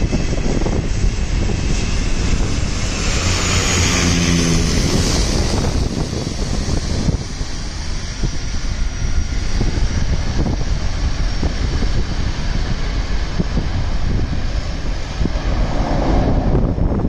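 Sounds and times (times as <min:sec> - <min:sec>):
turboprop engines running: 0:00.0 - 0:17.0
wind buffeting microphone: 0:00.0 - 0:17.0.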